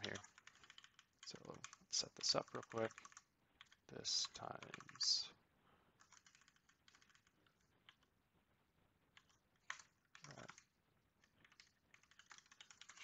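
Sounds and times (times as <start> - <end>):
keyboard typing: 0.0 - 5.3, 6.0 - 8.1, 9.1 - 13.0.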